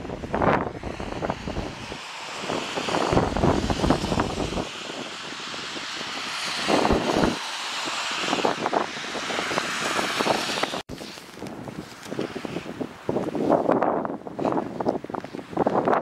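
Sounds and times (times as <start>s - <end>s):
steady rushing noise: 0.0s - 16.0s
storm wind buffeting microphone: 0.0s - 16.0s.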